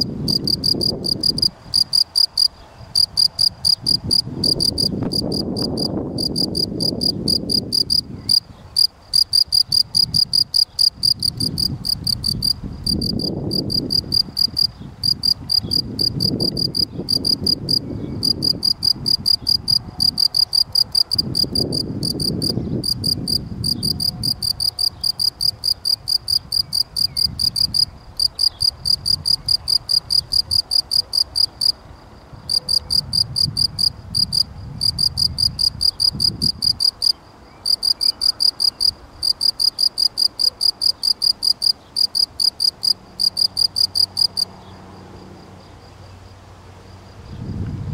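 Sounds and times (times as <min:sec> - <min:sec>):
cricket chirping: 0:00.0 - 0:47.7.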